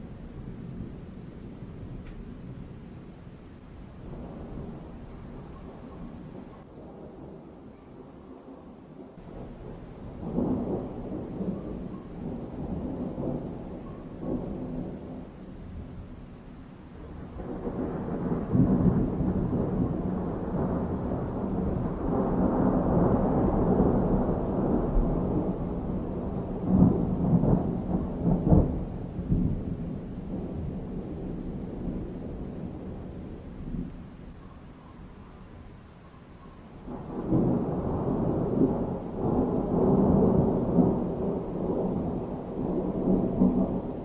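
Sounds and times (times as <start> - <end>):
thunder rumbling: 0.0 - 7.4, 9.2 - 44.0
sharp thunder cracks: 3.8 - 6.6, 9.2 - 34.4, 36.8 - 44.0.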